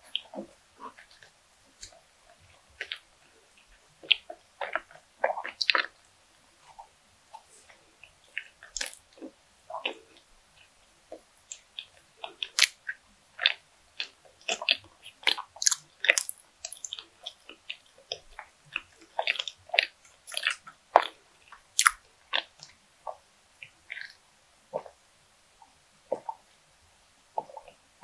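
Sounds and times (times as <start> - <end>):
chewing bread: 0.0 - 25.0.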